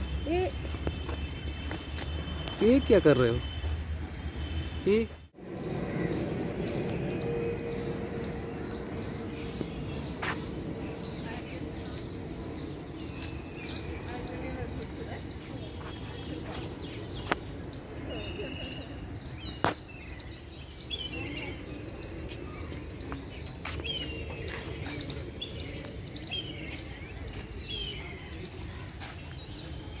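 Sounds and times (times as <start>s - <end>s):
birds chirping: 0.0s - 30.0s
murmur of distant voices: 2.4s - 30.0s.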